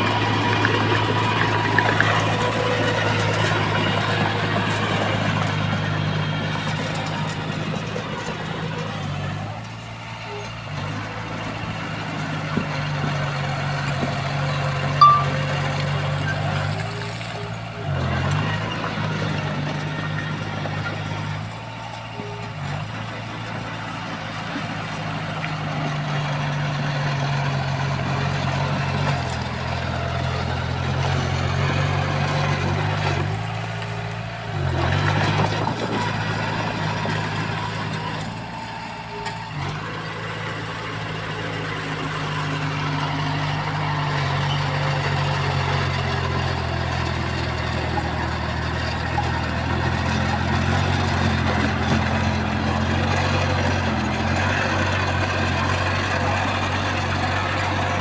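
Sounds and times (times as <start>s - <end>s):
heavy machinery diesel engine: 0.0s - 58.0s.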